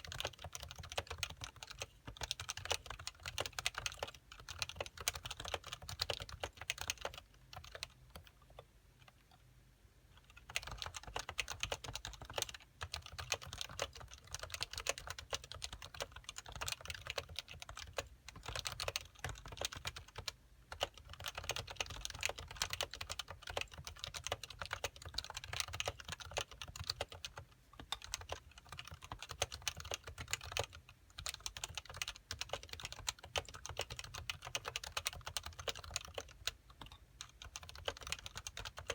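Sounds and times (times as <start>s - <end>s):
keyboard typing: 0.0s - 9.3s, 10.2s - 38.9s.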